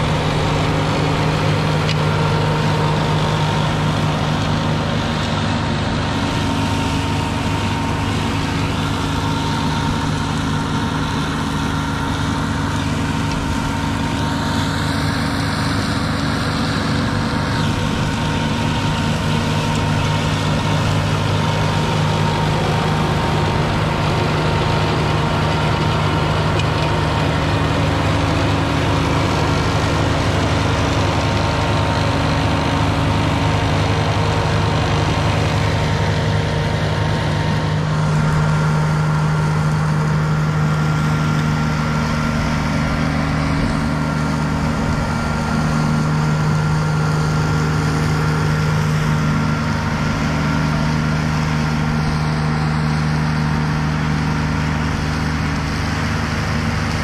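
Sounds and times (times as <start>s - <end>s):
mower engine and flail mulching: 0.0s - 57.0s.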